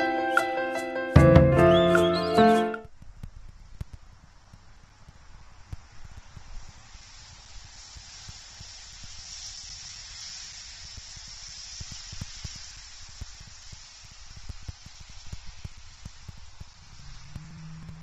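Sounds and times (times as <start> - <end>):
wind blowing: 1.2 - 18.0.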